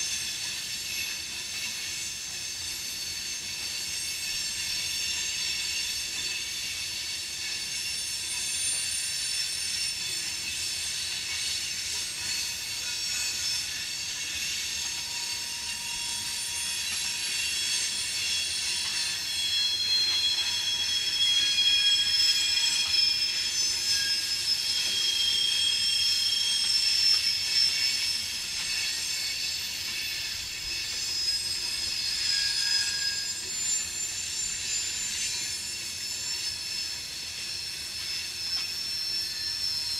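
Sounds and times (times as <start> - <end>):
train rolling rumble: 0.0 - 39.9
train wheels squealing: 0.0 - 39.9.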